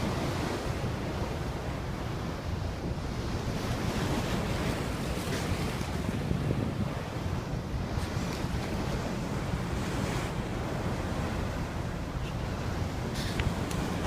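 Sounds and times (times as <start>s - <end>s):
sea water rushing: 0.0s - 14.0s
wind buffeting microphone: 0.0s - 14.0s.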